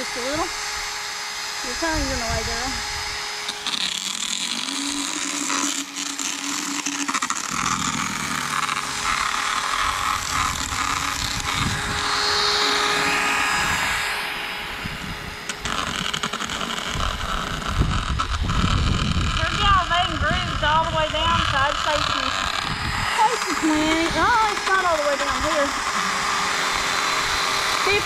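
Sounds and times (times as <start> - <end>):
motorized dental float grinding teeth: 0.0 - 28.0.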